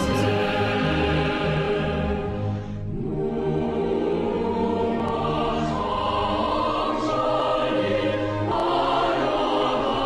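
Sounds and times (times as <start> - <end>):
background music with choral voices: 0.0 - 10.0.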